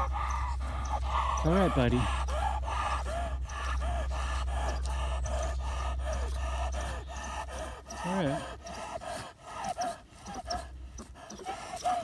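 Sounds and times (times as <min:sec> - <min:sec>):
dog panting rapidly: 0:00.0 - 0:12.0
dog whining: 0:00.0 - 0:12.0.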